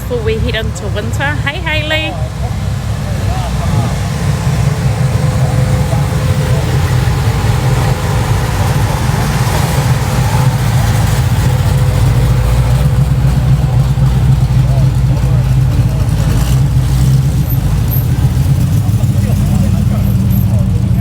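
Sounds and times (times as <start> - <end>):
car engine running slowly: 0.0 - 21.0.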